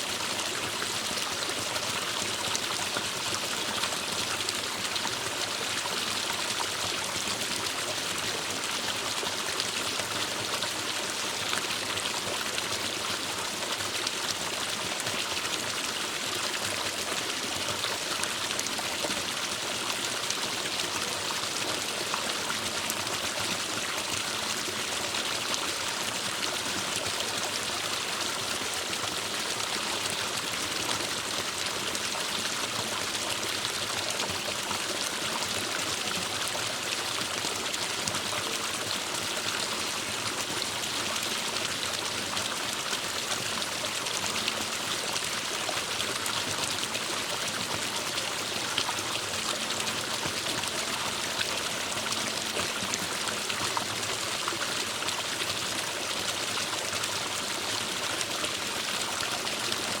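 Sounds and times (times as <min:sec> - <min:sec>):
stream flowing over rocks: 0:00.0 - 1:00.0.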